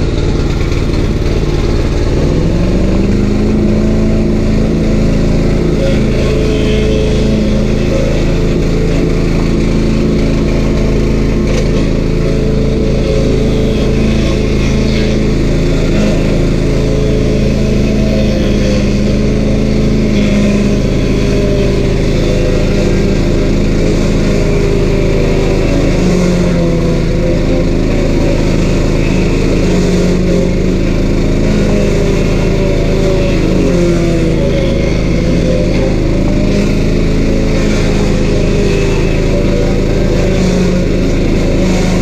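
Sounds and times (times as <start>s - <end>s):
stump grinder engine running: 0.0s - 42.0s.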